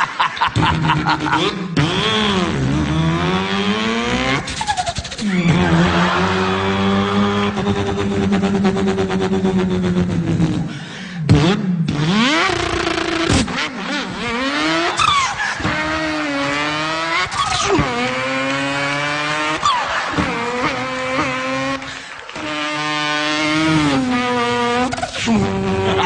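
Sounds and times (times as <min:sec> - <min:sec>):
man imitating car engine: 0:00.0 - 0:26.0.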